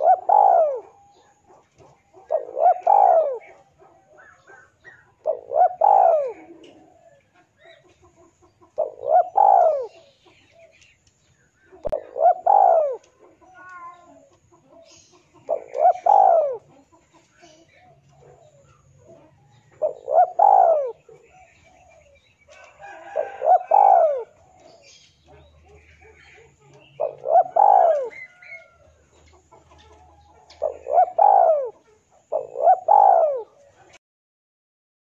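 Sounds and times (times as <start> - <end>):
dove cooing: 0.0 - 10.8, 11.6 - 34.0.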